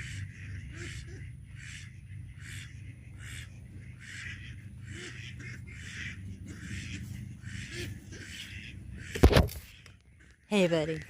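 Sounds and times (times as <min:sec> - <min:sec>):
bird harsh raspy calls: 0:00.0 - 0:11.0
low steady rumble: 0:00.0 - 0:11.0.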